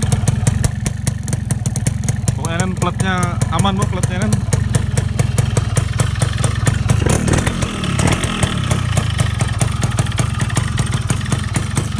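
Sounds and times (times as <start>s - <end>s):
two-stroke engine idling: 0.0s - 11.9s.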